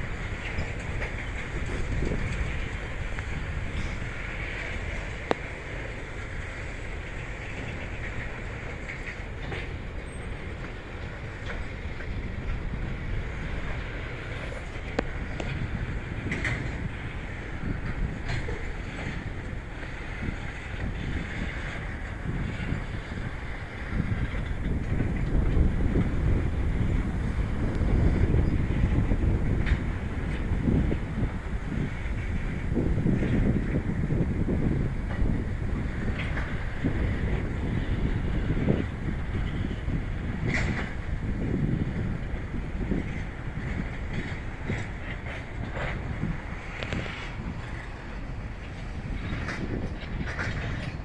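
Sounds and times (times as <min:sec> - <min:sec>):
freight train rumbling past: 0:00.0 - 0:51.0
wind buffeting microphone: 0:00.0 - 0:51.0.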